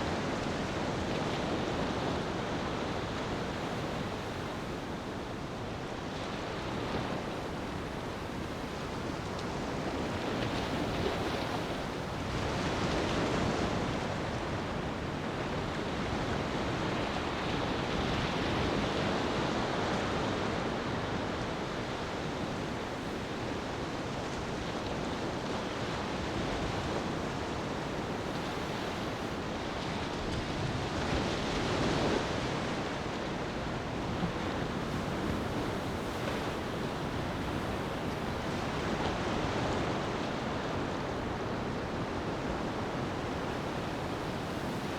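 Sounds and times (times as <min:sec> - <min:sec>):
ocean surf washing onto beach: 0:00.0 - 0:44.9.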